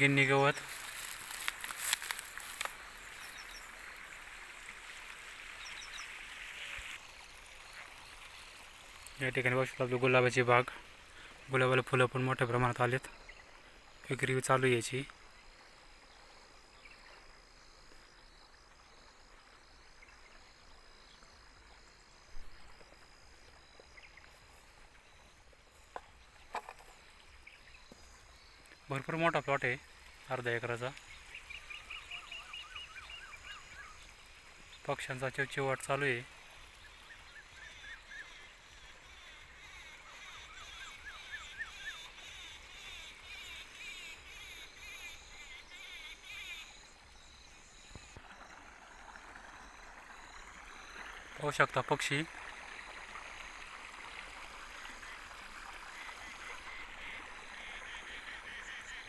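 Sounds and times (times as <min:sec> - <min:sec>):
birds chirping: 0:00.0 - 0:52.3.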